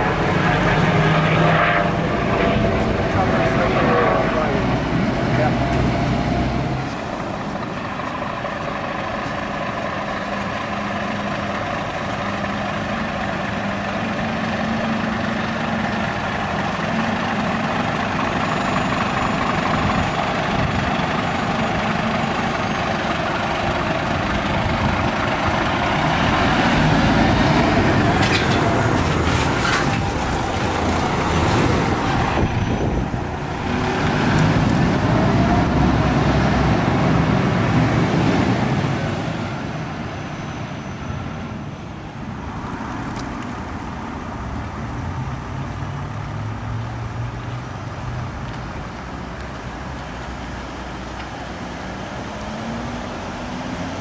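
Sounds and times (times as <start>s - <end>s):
fire truck diesel engine: 0.0s - 54.0s.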